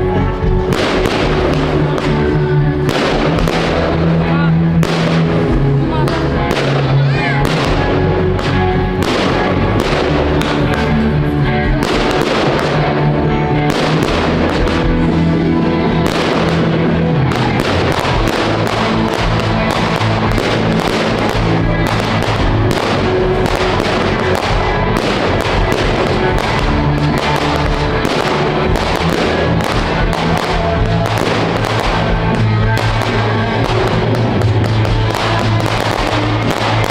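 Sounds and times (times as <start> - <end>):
fireworks bangs and crackles: 0.0 - 36.9
loud music with bass notes: 0.0 - 36.9.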